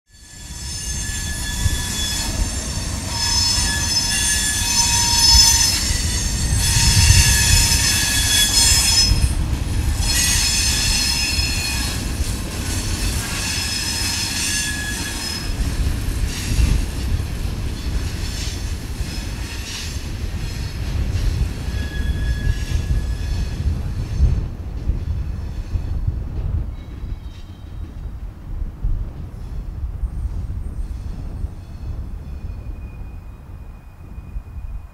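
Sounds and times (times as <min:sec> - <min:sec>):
train wheels squealing: 0:00.1 - 0:26.1, 0:26.7 - 0:28.1, 0:29.4 - 0:34.9
low rolling rumble of train: 0:00.1 - 0:34.9.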